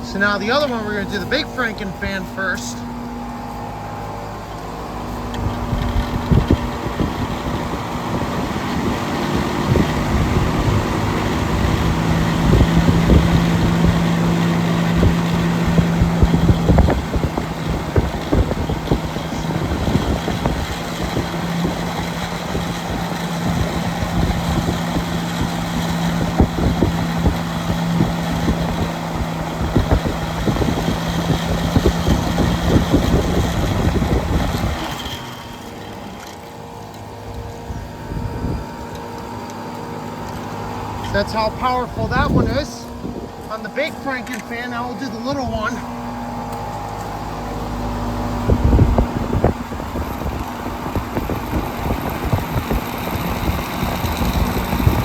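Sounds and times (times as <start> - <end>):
wind buffeting microphone: 0.0 - 36.2, 37.0 - 55.0
condenser fan blowing: 0.0 - 55.0
steady low hum: 0.0 - 55.0.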